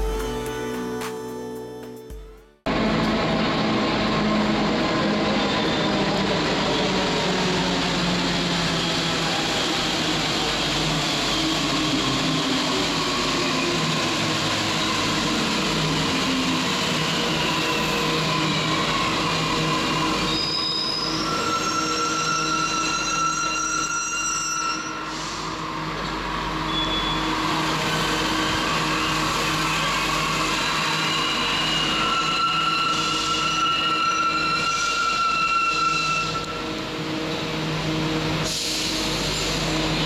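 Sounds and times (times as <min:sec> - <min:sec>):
train rumbling: 0:02.7 - 0:23.4, 0:24.9 - 0:40.0.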